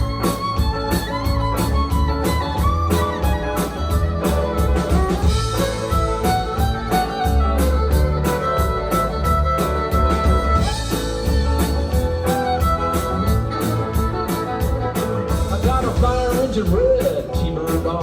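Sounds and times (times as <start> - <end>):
country rock band playing: 0.0 - 18.0
drums steady beat: 0.0 - 18.0.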